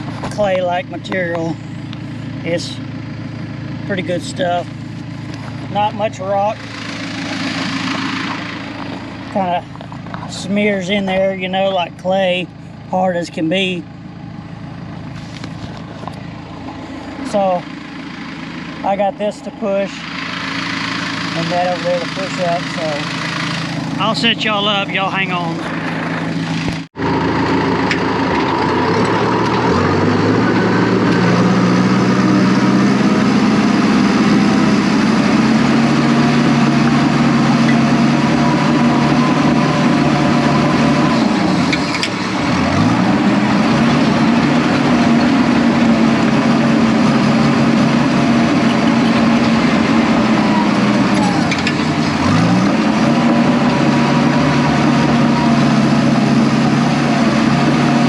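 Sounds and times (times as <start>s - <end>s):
dozer diesel engine running hard: 0.0s - 58.0s.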